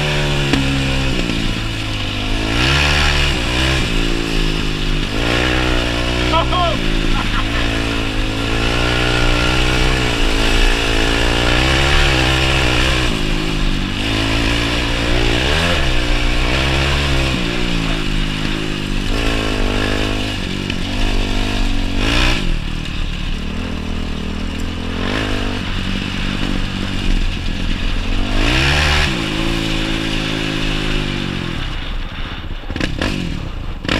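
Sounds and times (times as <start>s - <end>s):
quad bike engine revving: 0.0s - 31.8s, 32.7s - 33.9s.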